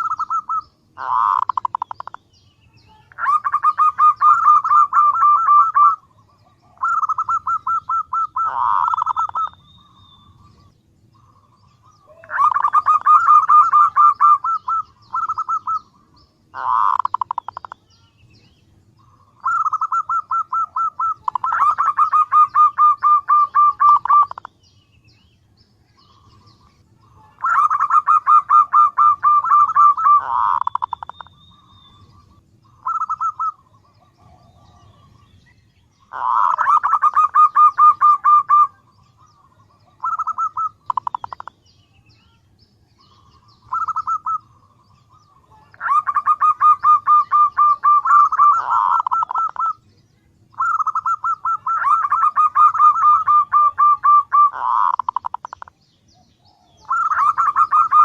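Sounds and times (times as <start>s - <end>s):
dove staccato cooing: 0.0s - 2.3s, 2.9s - 9.7s, 10.5s - 17.8s, 19.0s - 24.6s, 26.1s - 35.2s, 36.0s - 41.6s, 43.0s - 49.8s, 50.5s - 55.8s, 56.5s - 58.0s.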